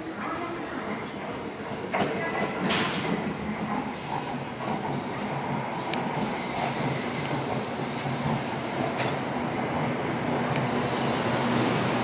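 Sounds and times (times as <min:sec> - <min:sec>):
electric train slowing: 0:02.4 - 0:12.0.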